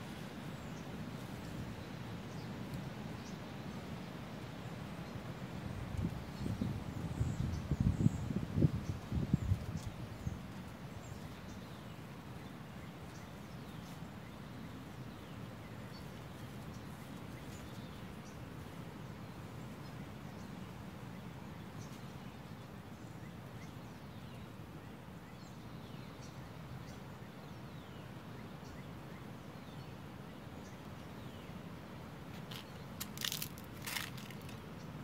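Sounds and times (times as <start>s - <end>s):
low background noise: 0.0s - 35.0s.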